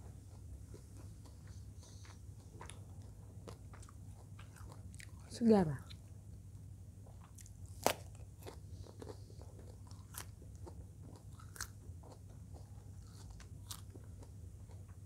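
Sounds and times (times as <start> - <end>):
crunchy chewing: 0.0 - 6.1, 7.0 - 15.0.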